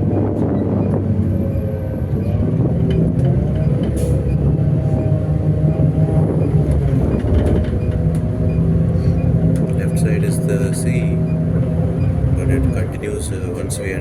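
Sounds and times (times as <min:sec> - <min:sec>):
bus engine hum: 0:00.0 - 0:14.0
road noise: 0:00.0 - 0:14.0.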